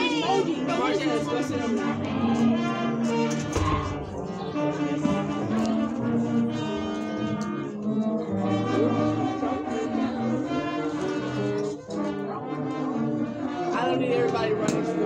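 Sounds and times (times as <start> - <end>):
band instruments holding notes: 0.0 - 15.0.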